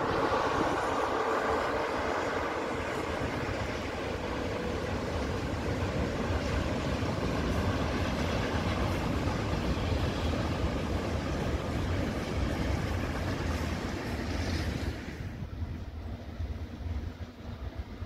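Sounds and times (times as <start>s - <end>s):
train rumbling on tracks: 0.0s - 18.0s.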